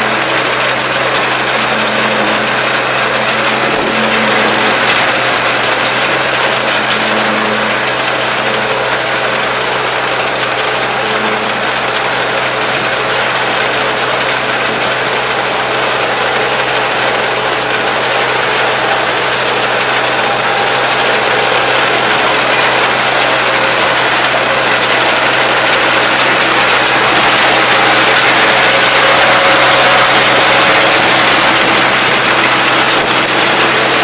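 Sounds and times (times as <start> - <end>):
round baler running: 0.0 - 34.0
tractor engine: 0.0 - 34.0.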